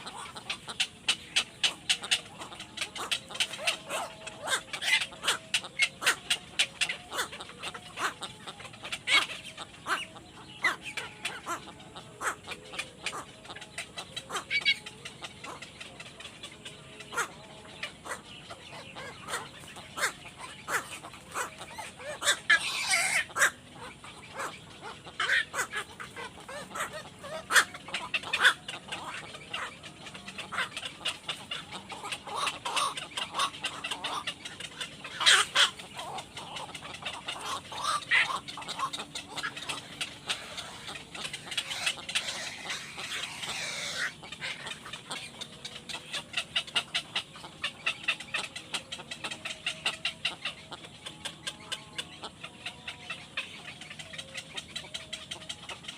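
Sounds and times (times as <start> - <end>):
birds calling: 0.0 - 55.9.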